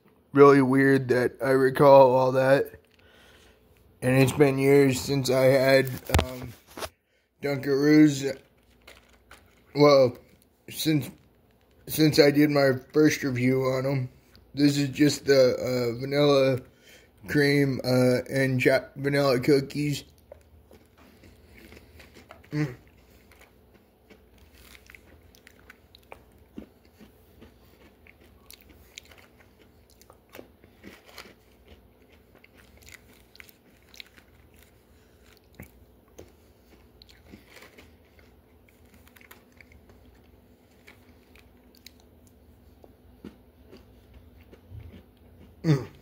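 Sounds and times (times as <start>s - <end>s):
person chewing crunchy cookies: 2.2s - 46.0s.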